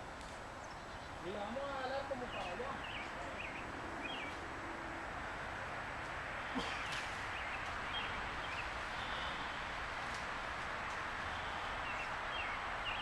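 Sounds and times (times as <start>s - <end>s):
steady rustling hiss: 0.0s - 13.0s.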